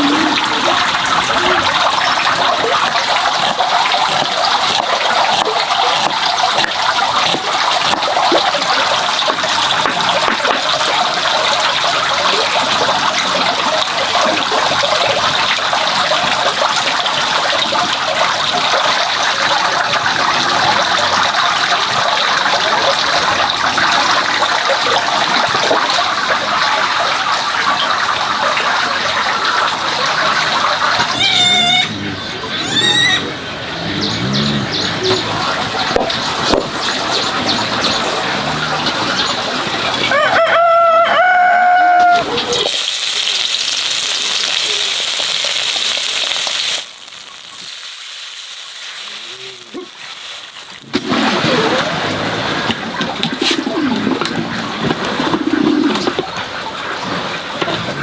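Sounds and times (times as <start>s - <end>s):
running splashing water: 0.0s - 58.0s.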